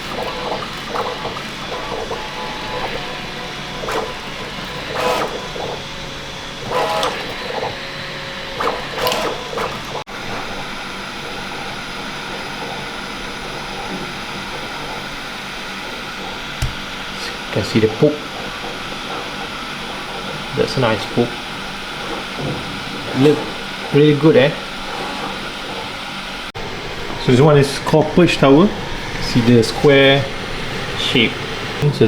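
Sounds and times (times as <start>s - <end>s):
printer stepper motors whirring: 0.0s - 32.0s
steady whir with hum: 0.0s - 32.0s.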